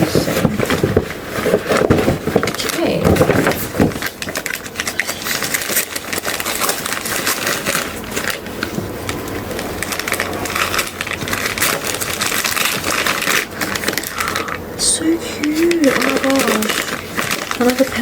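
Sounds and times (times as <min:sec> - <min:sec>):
wrapping paper rustling and crackling: 0:00.0 - 0:18.0.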